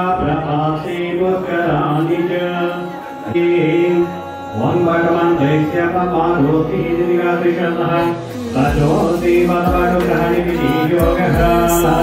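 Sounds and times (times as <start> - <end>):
man chanting into a microphone: 0.0 - 12.0.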